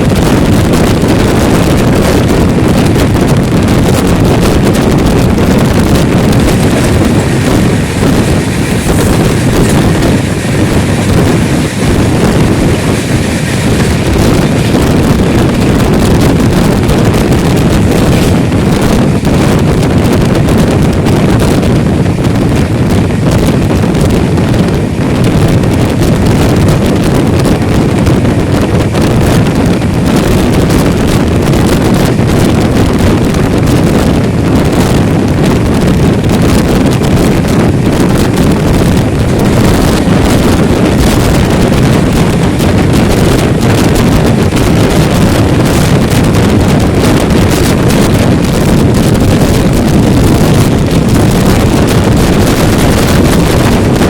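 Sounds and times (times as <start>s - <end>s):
train rumbling at speed: 0.0s - 54.0s
wind buffeting microphone: 0.0s - 54.0s.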